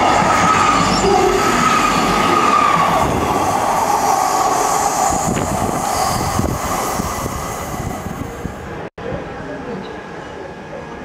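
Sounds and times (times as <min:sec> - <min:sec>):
diesel train engine whine: 0:00.0 - 0:08.9
wheels rumbling on rail: 0:00.0 - 0:08.9.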